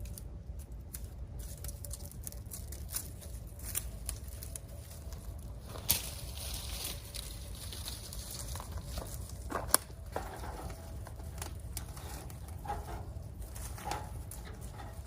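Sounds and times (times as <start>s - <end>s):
campfire crackling: 0.0s - 15.0s
fire popping: 0.0s - 15.0s.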